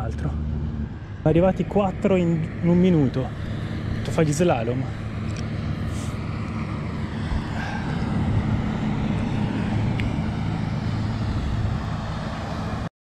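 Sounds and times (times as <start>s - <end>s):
ferry engine droning: 0.0s - 12.9s.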